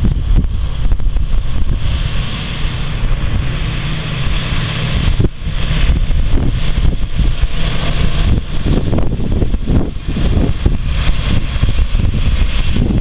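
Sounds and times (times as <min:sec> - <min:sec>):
diesel bus engine running: 0:00.0 - 0:13.0
wind buffeting microphone: 0:00.0 - 0:13.0.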